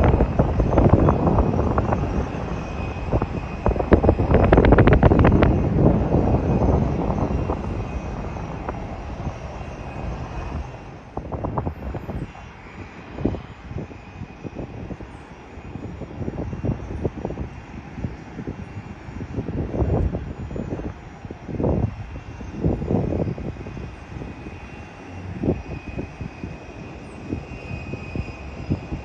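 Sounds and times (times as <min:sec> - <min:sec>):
jet engines rumbling past: 0:00.0 - 0:29.0
wind buffeting microphone: 0:00.0 - 0:29.0.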